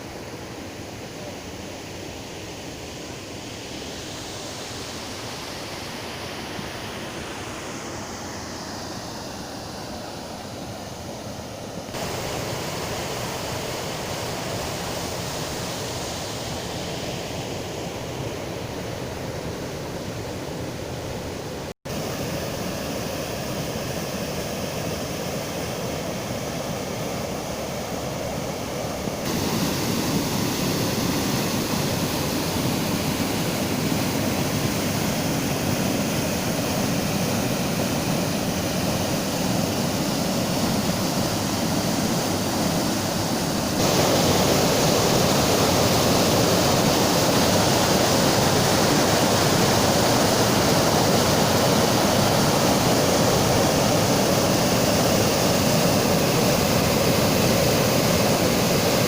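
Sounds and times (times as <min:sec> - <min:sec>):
water rushing over waterfalls: 0:00.0 - 0:59.0.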